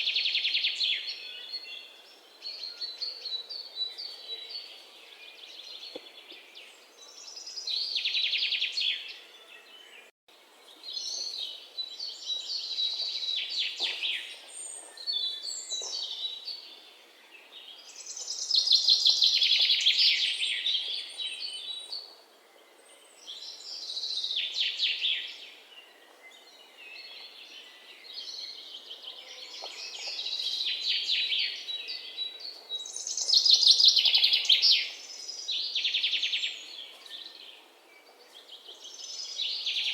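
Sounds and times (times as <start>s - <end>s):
faint background noise: 0.0s - 39.9s.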